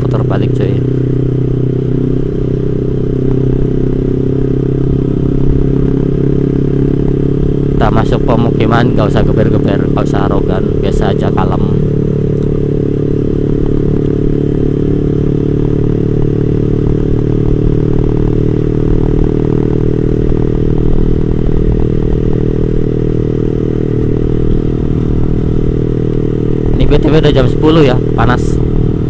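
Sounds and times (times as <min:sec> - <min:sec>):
motorcycle engine at low speed: 0:00.0 - 0:29.0.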